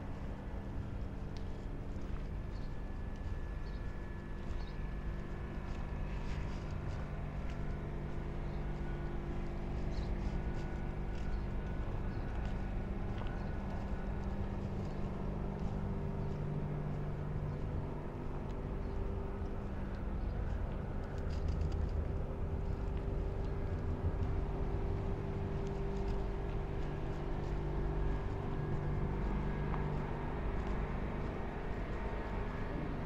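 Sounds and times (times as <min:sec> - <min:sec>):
engine running at low revs: 0:00.0 - 0:33.0
footsteps clicking on hard ground: 0:00.0 - 0:33.0.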